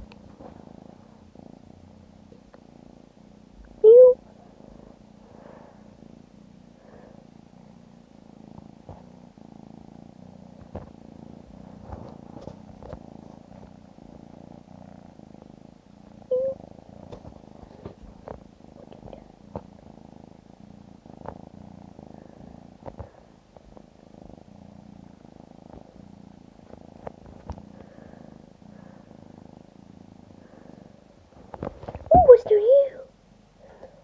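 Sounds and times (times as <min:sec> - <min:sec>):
kitten purring: 0:00.0 - 0:34.0.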